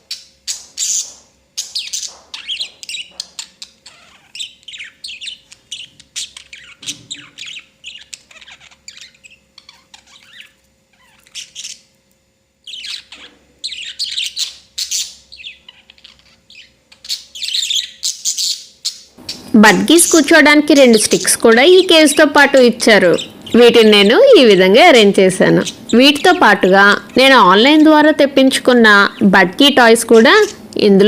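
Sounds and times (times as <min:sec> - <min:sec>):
budgerigars chirping and squawking: 0:00.0 - 0:11.9, 0:12.6 - 0:28.1.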